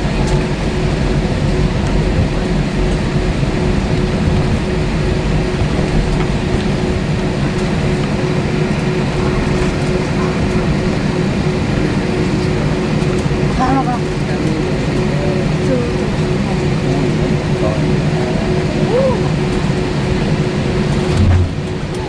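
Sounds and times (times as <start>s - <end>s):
constant cabin hum: 0.0s - 22.0s
jet engines idling: 0.0s - 22.0s.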